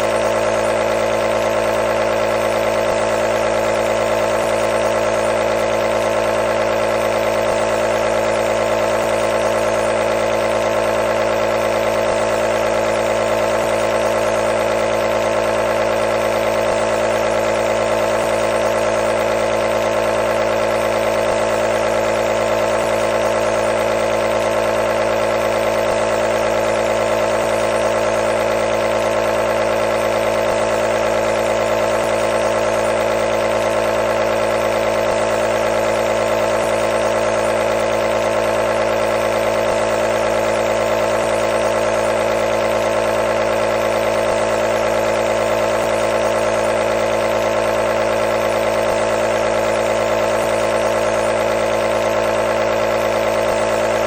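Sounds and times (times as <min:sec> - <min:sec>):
compressor humming: 0:00.0 - 0:54.0.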